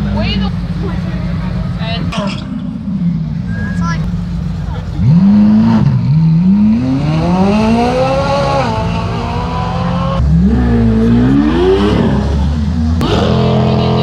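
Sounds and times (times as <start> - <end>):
car engine revving: 0.0 - 14.0
sports car accelerating: 0.0 - 14.0.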